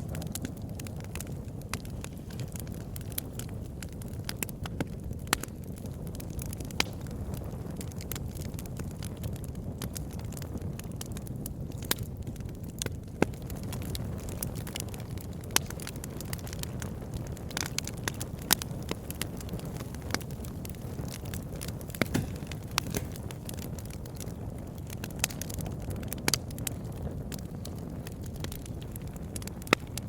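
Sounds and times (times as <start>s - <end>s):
campfire flames rumbling: 0.0s - 30.0s
fire crackles and pops: 0.0s - 30.0s.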